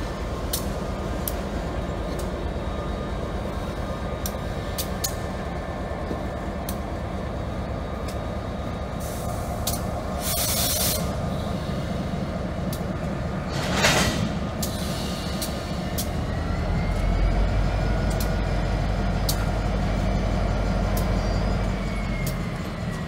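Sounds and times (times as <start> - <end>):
tank cars rumbling: 0.0 - 23.0.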